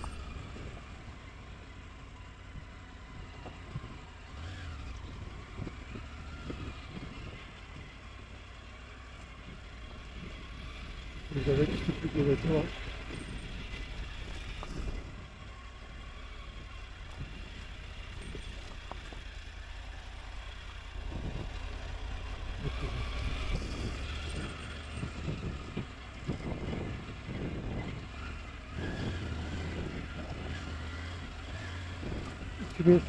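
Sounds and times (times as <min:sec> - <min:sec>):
motorcycle engine low rumble: 0:00.0 - 0:33.0
wind: 0:00.0 - 0:33.0.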